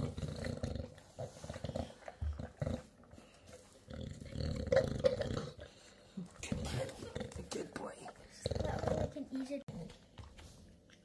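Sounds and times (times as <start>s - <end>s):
dog chewing: 0.0s - 11.0s.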